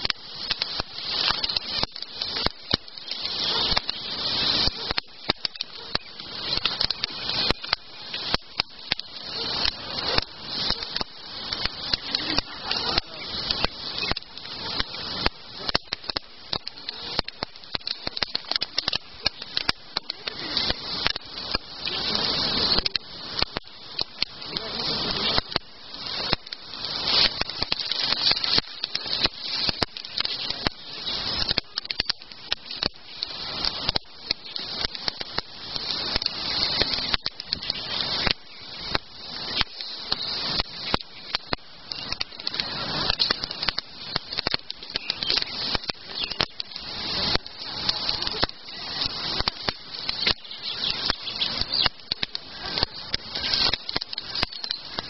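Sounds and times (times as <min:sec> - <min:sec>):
campfire crackling and popping: 0:00.0 - 0:55.0
fire hiss: 0:00.0 - 0:55.0.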